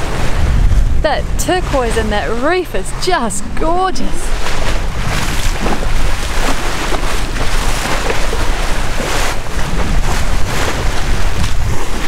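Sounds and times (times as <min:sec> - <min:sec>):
sea water rushing along hull: 0:00.0 - 0:12.0
wind buffeting microphone: 0:00.0 - 0:12.0.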